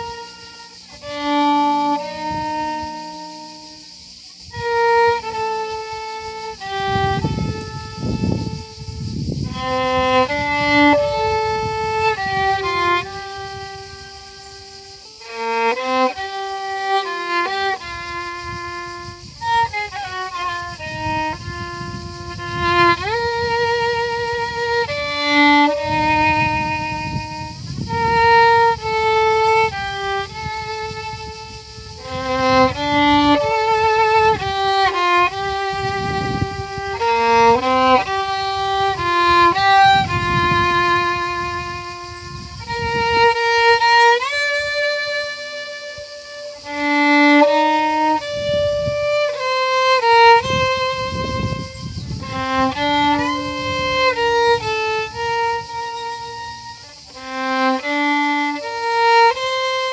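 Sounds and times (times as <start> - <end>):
violin playing slow melody: 0.0 - 59.9.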